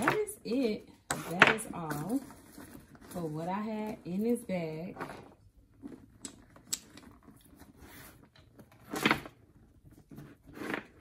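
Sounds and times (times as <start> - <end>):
items clattering: 0.0 - 11.0.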